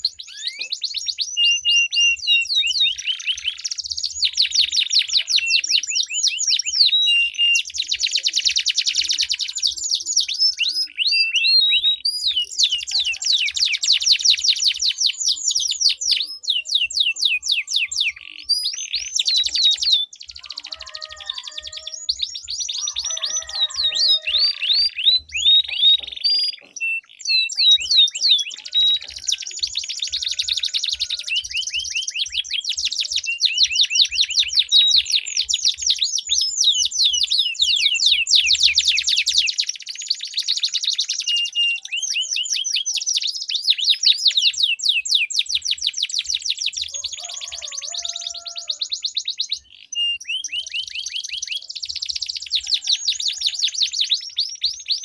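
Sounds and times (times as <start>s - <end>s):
canaries singing trills: 0.0s - 55.0s.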